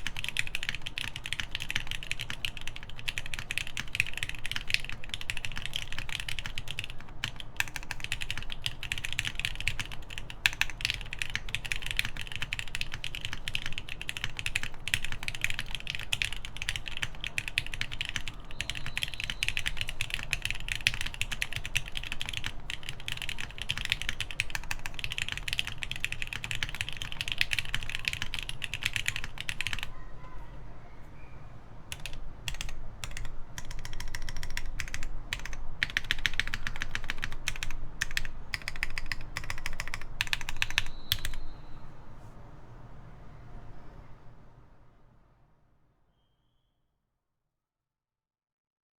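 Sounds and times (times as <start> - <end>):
fast typing on mechanical keyboard: 0.0 - 29.9, 31.9 - 41.5.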